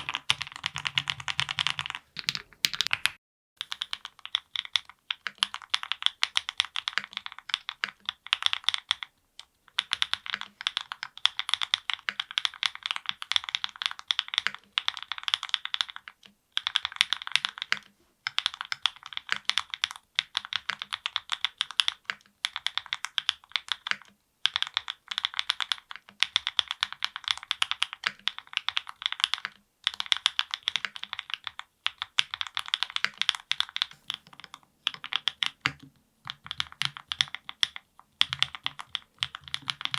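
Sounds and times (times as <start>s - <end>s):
mechanical keyboard typing: 0.0s - 9.1s, 9.7s - 39.9s.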